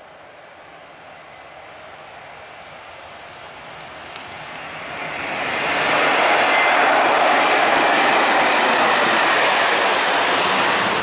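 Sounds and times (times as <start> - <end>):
jet engines rushing overhead: 0.0 - 11.0.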